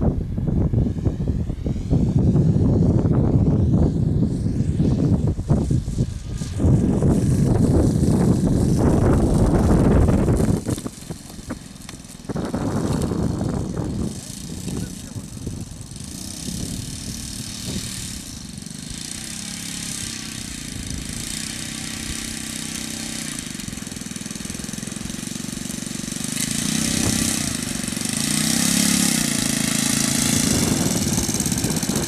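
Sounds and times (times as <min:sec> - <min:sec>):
model airplane engine running: 0:00.0 - 0:32.0.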